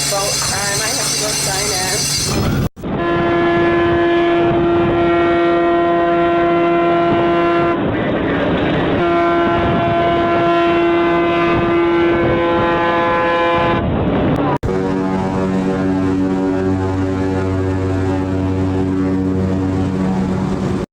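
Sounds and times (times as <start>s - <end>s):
ship's horn blast: 0.0s - 20.9s.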